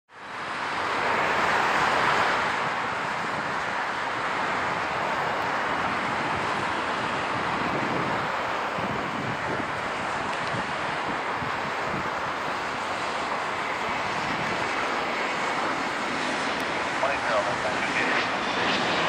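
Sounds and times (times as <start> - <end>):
jet engine roar: 0.2 - 19.0.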